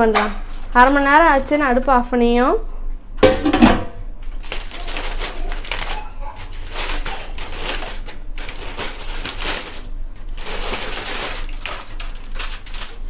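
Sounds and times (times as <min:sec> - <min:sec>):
aluminium foil crinkling: 0:00.0 - 0:02.0, 0:04.2 - 0:13.0.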